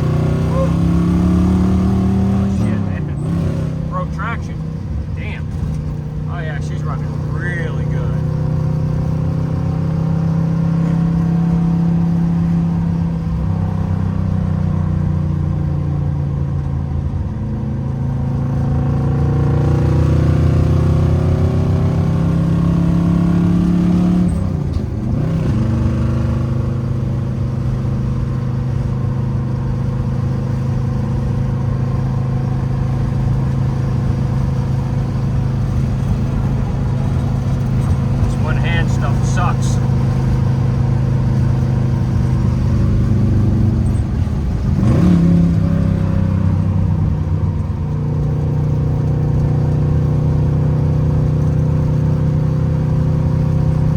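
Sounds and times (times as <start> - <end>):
car engine revving through gears: 0.0 - 53.9.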